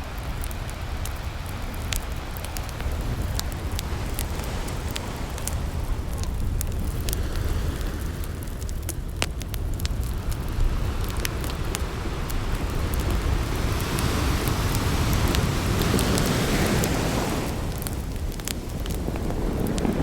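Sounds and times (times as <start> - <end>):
campfire crackling and popping: 0.0 - 20.0
fire rushing: 0.0 - 20.0.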